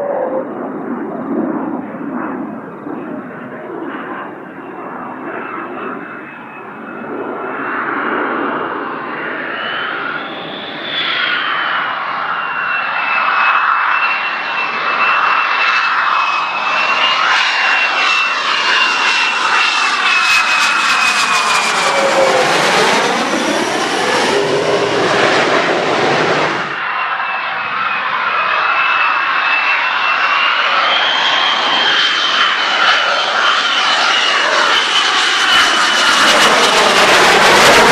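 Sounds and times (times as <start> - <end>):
jet engine high whine and rumble: 0.0 - 37.9.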